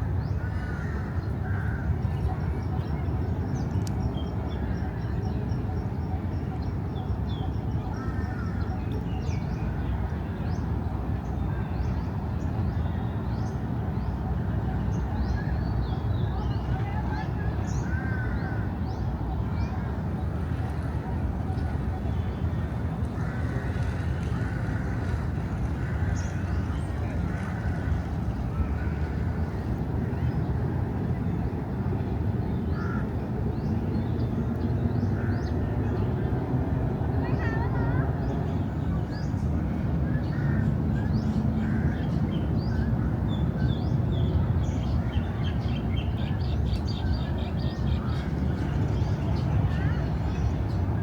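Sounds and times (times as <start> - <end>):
city traffic rumble: 0.0 - 51.0.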